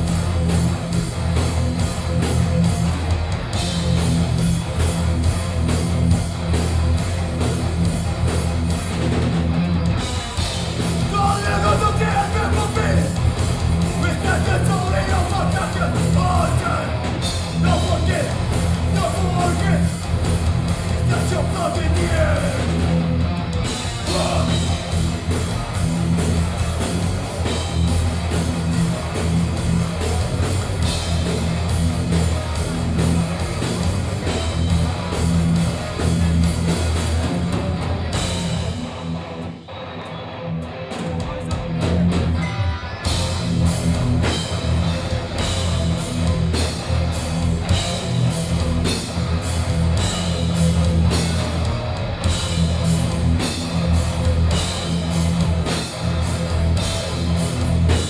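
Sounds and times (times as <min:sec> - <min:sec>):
drum kit with cymbals: 0:00.0 - 0:39.1, 0:40.9 - 0:58.0
bass guitar: 0:00.0 - 0:58.0
distorted electric guitars: 0:00.0 - 0:58.0.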